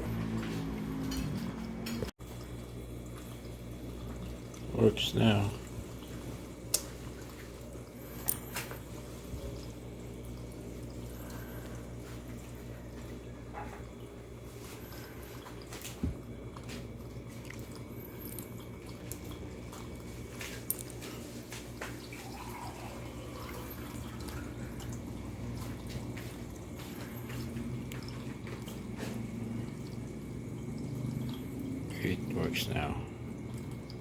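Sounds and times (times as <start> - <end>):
aquarium air pump humming: 0.0 - 34.0.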